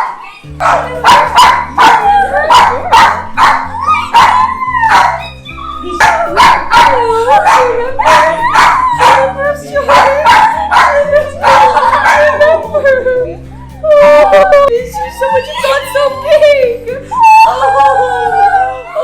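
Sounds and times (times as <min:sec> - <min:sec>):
dogs barking and yelping: 0:00.0 - 0:19.0
background music with bass line: 0:00.4 - 0:19.0.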